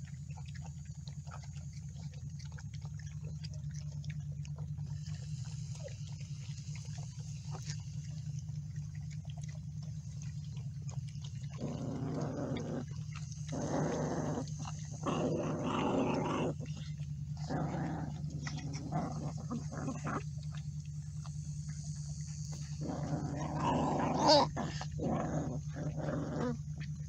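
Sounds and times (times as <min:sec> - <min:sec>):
low hum: 0:00.0 - 0:27.0
puppies growling: 0:00.0 - 0:27.0.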